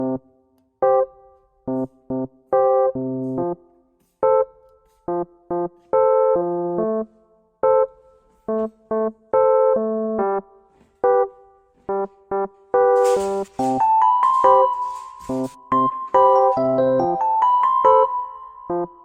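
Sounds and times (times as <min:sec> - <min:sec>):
bouncy electric piano tune: 0:00.0 - 0:19.0.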